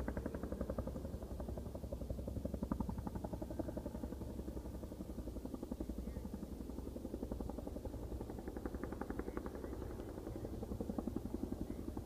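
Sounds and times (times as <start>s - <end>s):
helicopter engine drone: 0.0s - 12.0s
helicopter rotor beating: 0.0s - 12.0s.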